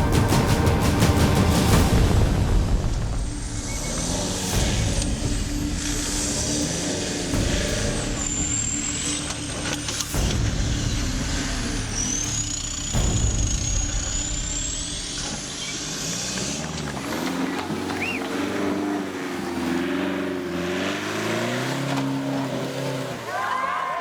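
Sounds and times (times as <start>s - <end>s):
high gliding whine: 0.0s - 20.6s
off-road vehicle engine revving: 0.0s - 24.0s.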